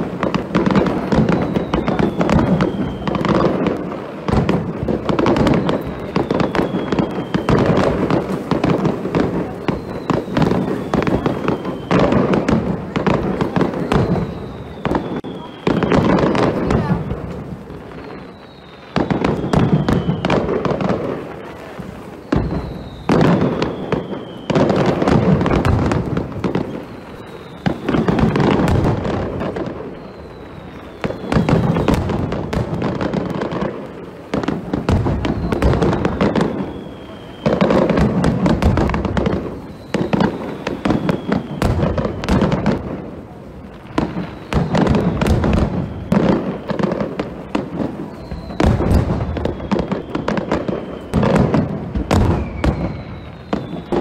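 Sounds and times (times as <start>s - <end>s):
firework crackling: 0.0s - 54.0s
firework falling whistle: 0.0s - 54.0s
firework shells booming: 0.0s - 54.0s.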